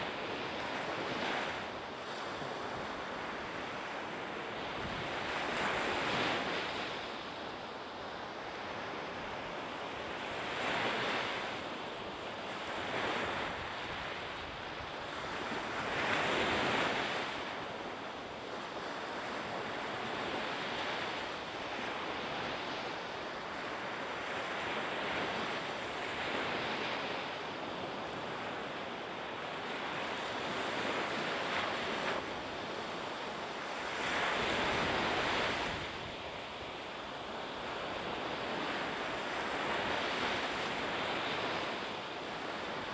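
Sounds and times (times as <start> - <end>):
wind: 0.0 - 42.9.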